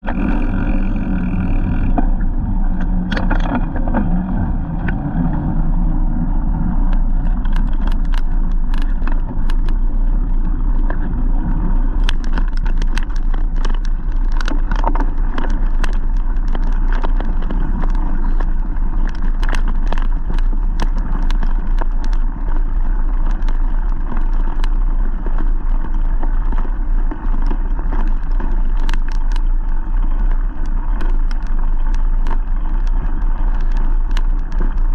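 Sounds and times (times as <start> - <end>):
sharp clicks and rattles: 0.0 - 5.6, 6.4 - 34.9
road rumble: 0.0 - 34.9
wind while riding a bike: 0.0 - 34.9.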